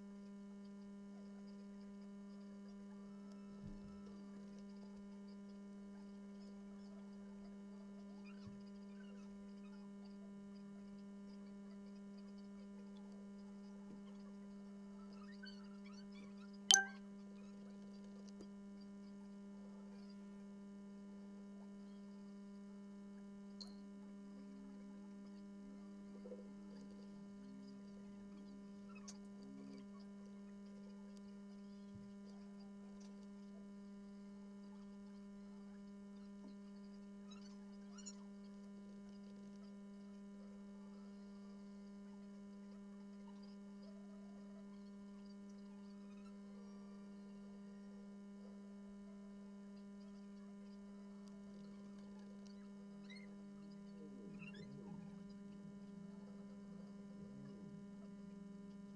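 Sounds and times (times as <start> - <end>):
faint electrical hum: 0.0 - 58.9.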